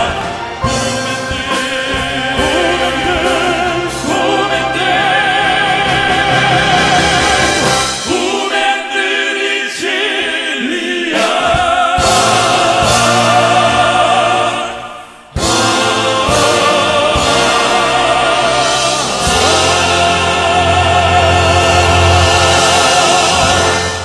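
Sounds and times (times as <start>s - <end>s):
male vocal quartet singing operatically: 0.0s - 24.0s.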